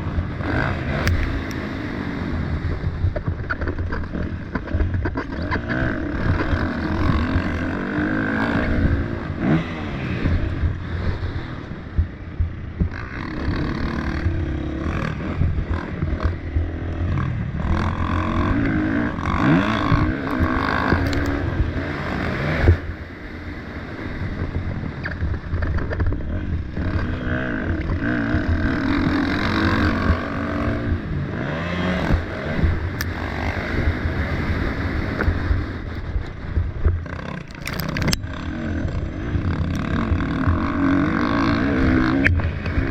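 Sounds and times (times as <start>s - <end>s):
bike rattling over terrain: 0.0s - 42.9s
motocross bike engine revving: 0.0s - 42.9s.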